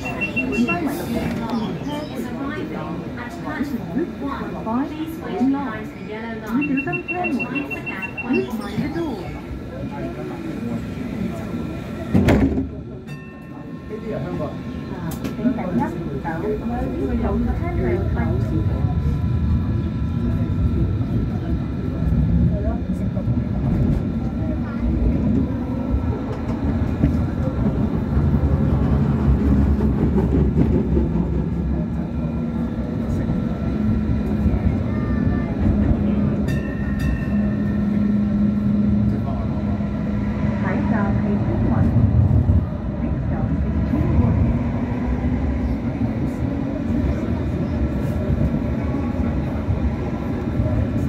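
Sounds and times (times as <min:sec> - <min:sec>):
train wheels rumbling on track: 0:00.0 - 0:51.0.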